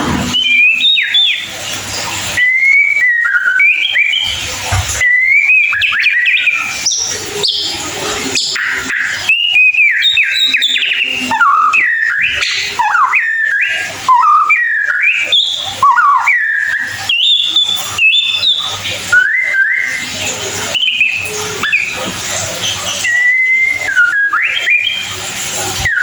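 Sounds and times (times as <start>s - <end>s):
bird singing whistled phrases: 0.0s - 26.0s.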